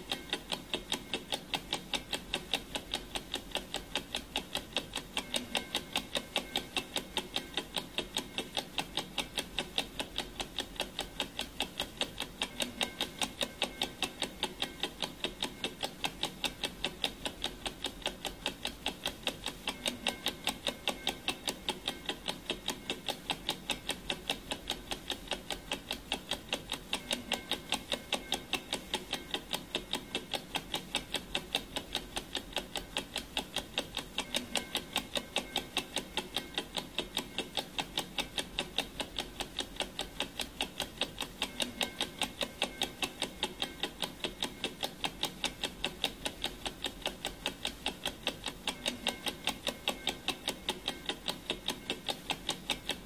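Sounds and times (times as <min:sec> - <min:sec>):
clock ticking: 0:00.0 - 0:53.0.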